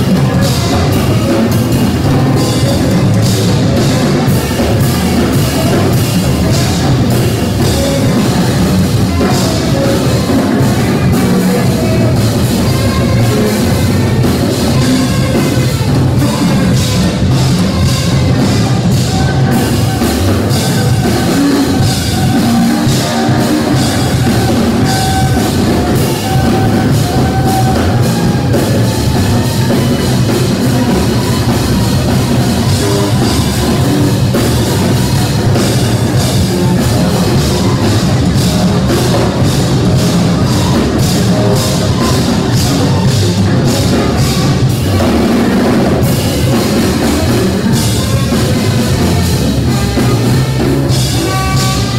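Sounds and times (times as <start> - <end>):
drum kit with cymbals: 0.0 - 51.9
jazz trio playing: 0.0 - 51.9
tenor saxophone: 0.0 - 51.9.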